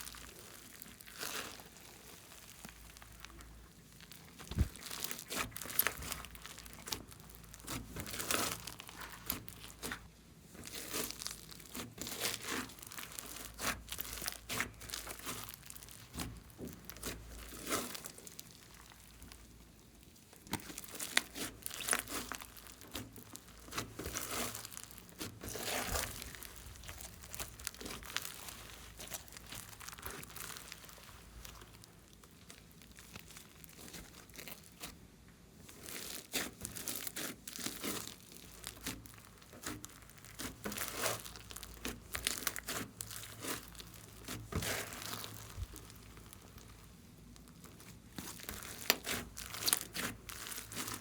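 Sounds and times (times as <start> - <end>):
slime squished by hand: 0.0 - 35.0, 35.6 - 51.0.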